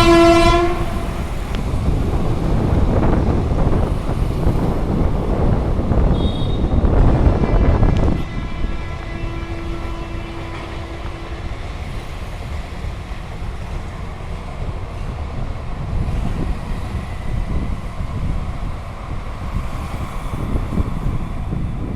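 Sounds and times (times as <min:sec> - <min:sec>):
train rumbling over bridge: 0:00.0 - 0:21.9
wind on microphone: 0:00.0 - 0:21.9.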